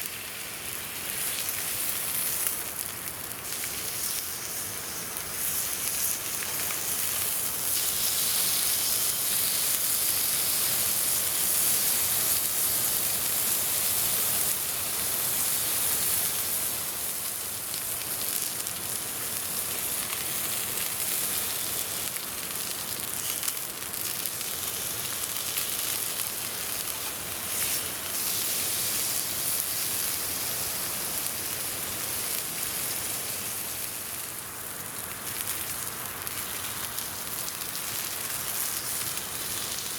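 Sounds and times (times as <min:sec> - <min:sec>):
meat sizzling on a grill: 0:00.0 - 0:39.9
campfire crackles: 0:00.1 - 0:39.9.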